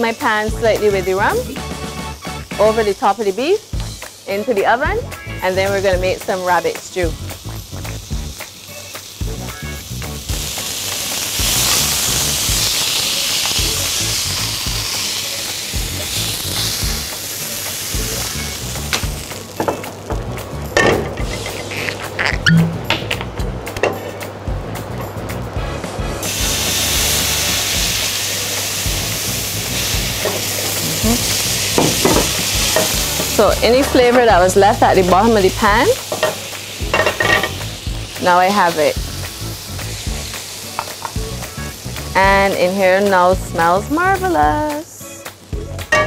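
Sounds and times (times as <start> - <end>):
meat sizzling in a pan: 0.0 - 22.4, 24.6 - 46.0
background music: 0.0 - 46.0.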